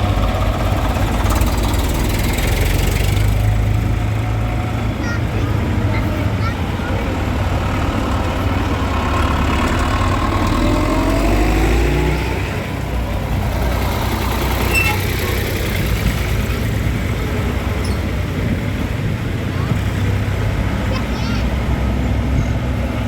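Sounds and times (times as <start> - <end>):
tractor engines running: 0.0 - 23.0.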